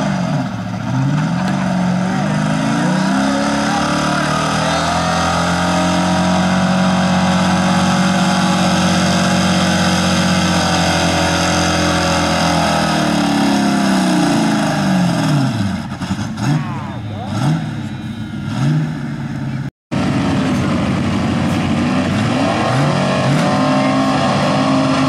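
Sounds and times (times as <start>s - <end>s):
pickup truck engine at high revs: 0.0s - 25.0s.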